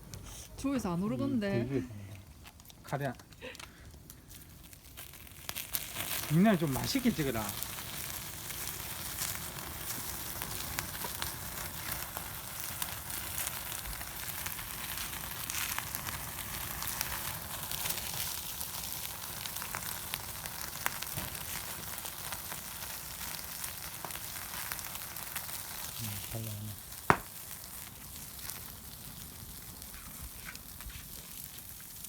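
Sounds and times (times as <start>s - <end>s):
wood fire crackling: 0.0s - 32.0s
meat sizzling on a grill: 2.5s - 32.0s.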